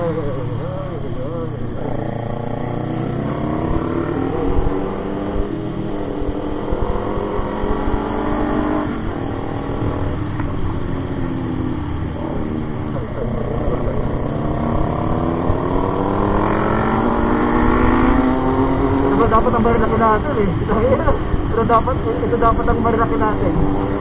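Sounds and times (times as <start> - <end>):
low wind rumble: 0.0 - 24.0
motorcycle engine revving: 0.0 - 24.0.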